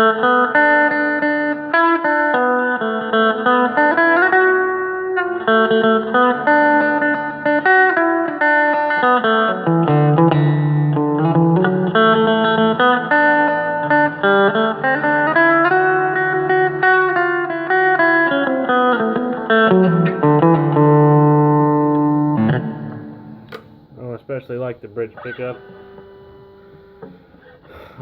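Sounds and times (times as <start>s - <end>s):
electric guitar notes and chords: 0.0s - 28.0s.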